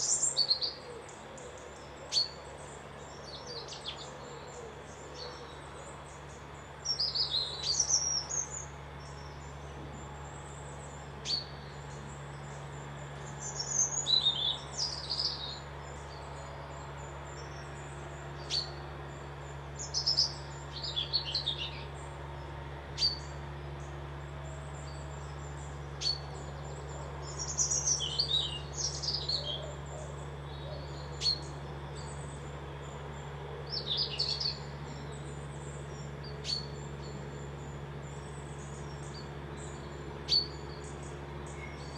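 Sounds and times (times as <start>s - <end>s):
songbirds warbling: 0.0s - 41.9s
steady low hum: 0.0s - 41.9s.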